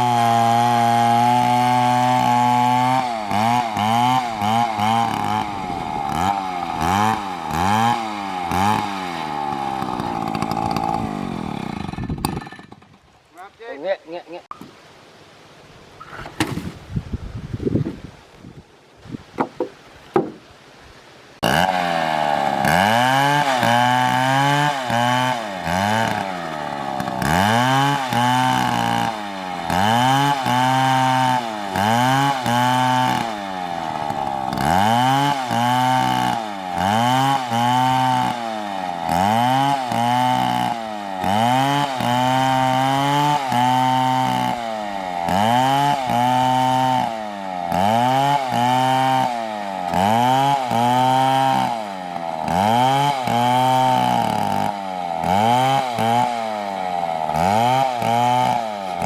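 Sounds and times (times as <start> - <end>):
chainsaw cutting wood: 0.0 - 13.8, 21.4 - 59.0.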